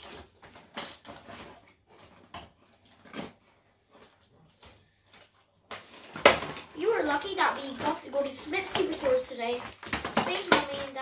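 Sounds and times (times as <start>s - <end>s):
cardboard and plastic rustling: 0.0s - 11.0s.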